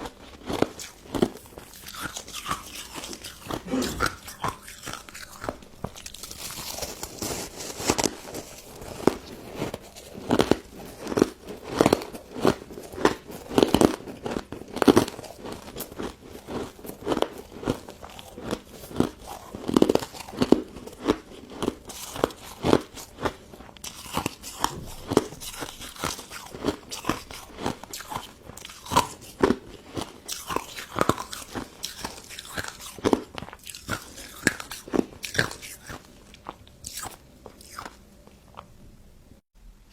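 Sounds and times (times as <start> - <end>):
crunching and chewing ice dessert: 0.0 - 38.8.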